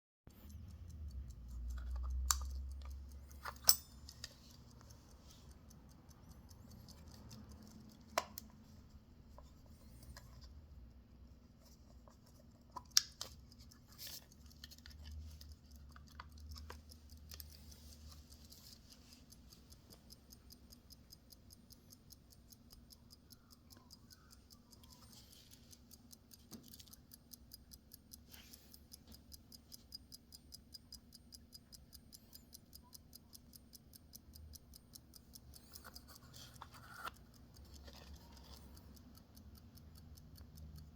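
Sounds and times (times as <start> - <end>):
clock ticking quickly: 0.3 - 8.6, 12.4 - 40.9.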